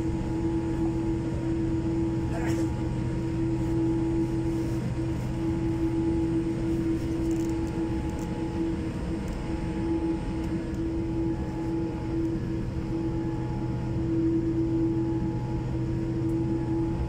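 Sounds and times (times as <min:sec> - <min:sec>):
aircraft engines idling: 0:00.0 - 0:17.0
droning cabin hum: 0:00.0 - 0:17.0.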